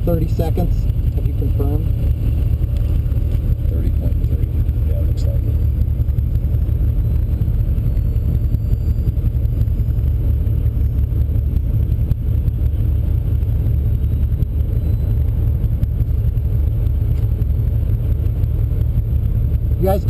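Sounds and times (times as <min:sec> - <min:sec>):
race car engine idling: 0:00.0 - 0:20.0.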